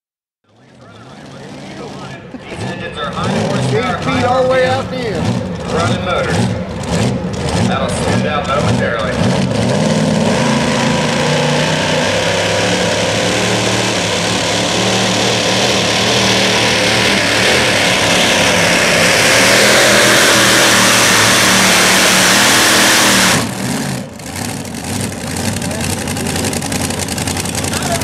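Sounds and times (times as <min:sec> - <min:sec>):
tractor engine at full throttle: 0:00.4 - 0:28.0.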